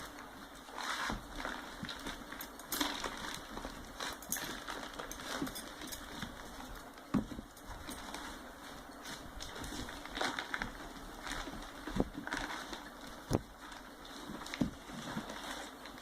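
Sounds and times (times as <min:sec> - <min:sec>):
coarse cloth rustling and scraping: 0:00.0 - 0:16.0.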